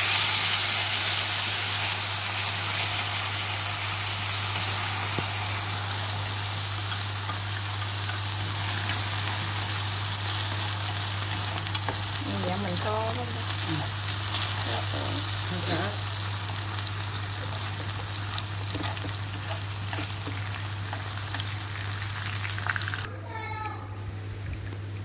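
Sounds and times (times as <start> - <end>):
food sizzling in a pan: 0.0 - 23.1.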